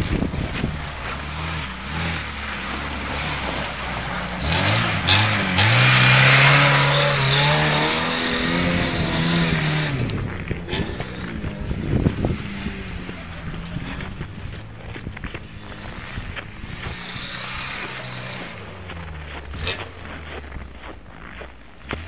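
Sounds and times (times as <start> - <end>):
car engine revving: 0.0 - 22.0
wheels spinning in snow: 0.0 - 22.0.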